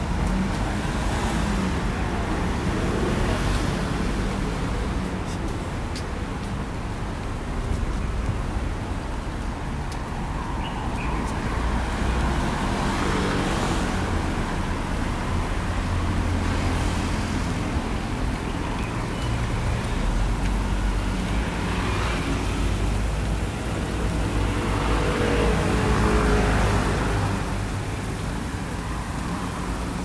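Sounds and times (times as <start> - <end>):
cars passing on road: 0.0 - 30.0.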